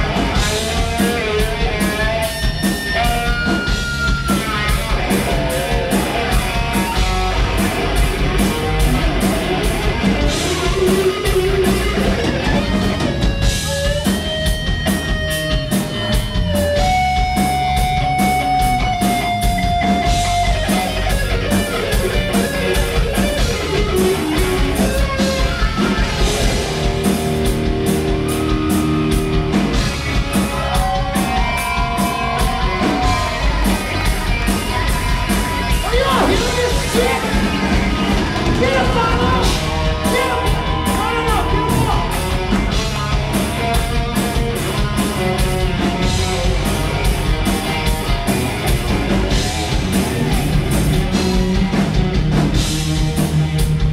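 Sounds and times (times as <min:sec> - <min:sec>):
bass guitar: 0:00.0 - 0:53.9
distorted electric guitar: 0:00.0 - 0:53.9
driving drum kit: 0:00.0 - 0:53.9.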